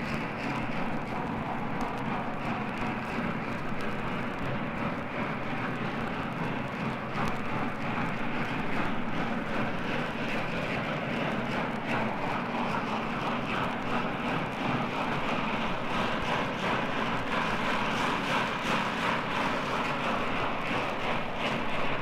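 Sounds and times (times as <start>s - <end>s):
steam train running: 0.0s - 22.0s.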